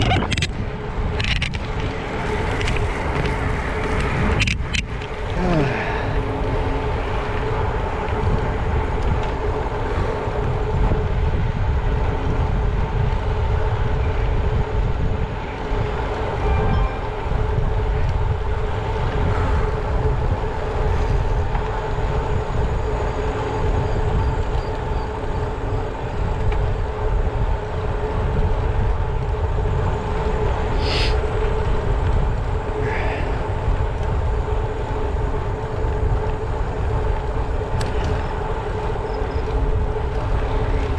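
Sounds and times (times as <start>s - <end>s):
bicycle tyre noise on road: 0.0s - 40.9s
steady hum: 0.0s - 40.9s
wind on microphone: 0.0s - 40.9s.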